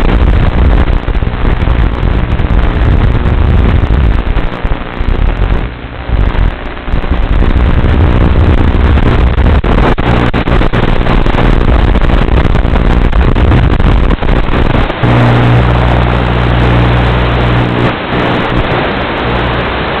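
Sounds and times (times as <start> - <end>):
steady low hum: 0.0 - 20.0
video receiver static: 0.0 - 20.0.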